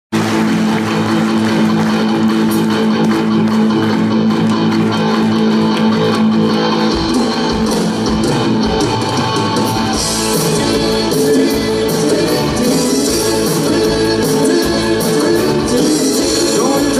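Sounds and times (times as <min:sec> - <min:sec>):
drums: 0:00.1 - 0:16.9
bass guitar: 0:00.2 - 0:16.9
electric guitars: 0:00.2 - 0:16.9.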